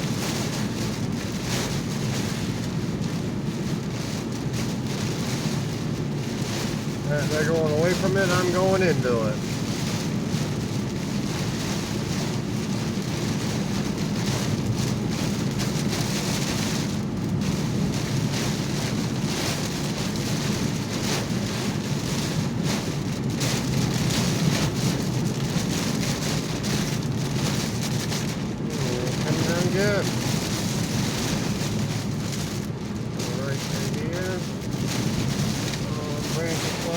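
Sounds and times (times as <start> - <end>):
heavy rain on a car: 0.0 - 36.9
wet road noise: 0.0 - 36.9.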